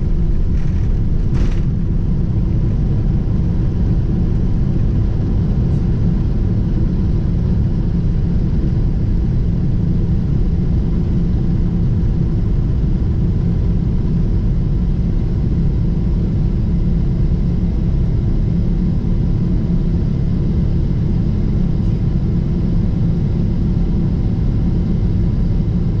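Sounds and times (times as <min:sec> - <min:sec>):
jet cabin engine rumble: 0:00.0 - 0:26.0.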